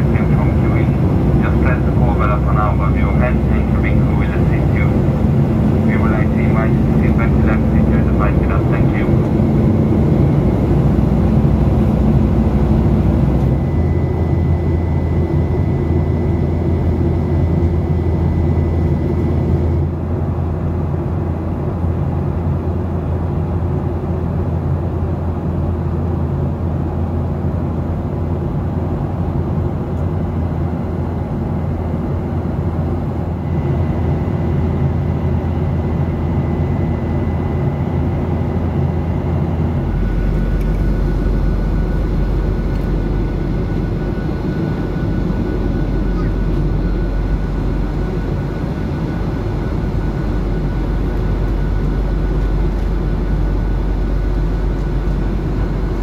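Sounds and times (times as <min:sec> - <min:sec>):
faint high whine: 0:00.0 - 0:20.5, 0:30.3 - 0:56.0
airplane cabin rumble: 0:00.0 - 0:56.0.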